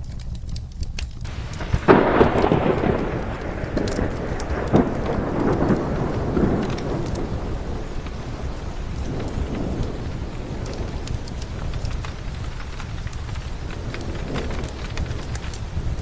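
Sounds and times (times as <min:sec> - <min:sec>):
scattered sharp ticks: 0:00.0 - 0:16.0
steady rain: 0:00.0 - 0:16.0
low thunder rumble: 0:01.2 - 0:16.0.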